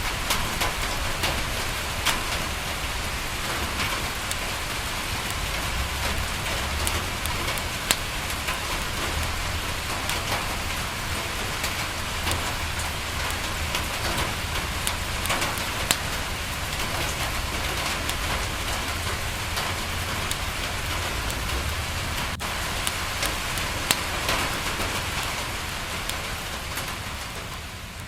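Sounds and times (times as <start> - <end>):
sharp pops: 0.0 - 27.5
rain on a window: 0.0 - 28.0
wood fire crackling: 0.0 - 28.0.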